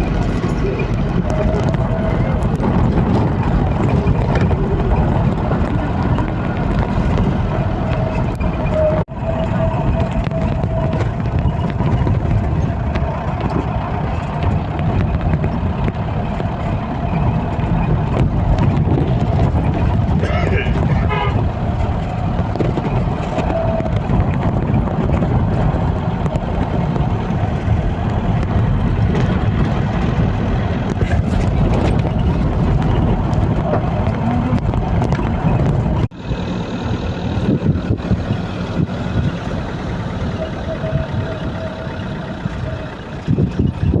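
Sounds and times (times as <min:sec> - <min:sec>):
traffic rumble: 0:00.0 - 0:44.0.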